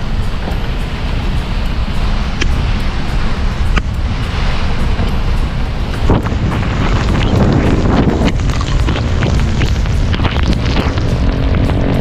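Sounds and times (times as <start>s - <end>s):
heavy rain falling: 0.0s - 12.0s
low rumble: 0.0s - 12.0s.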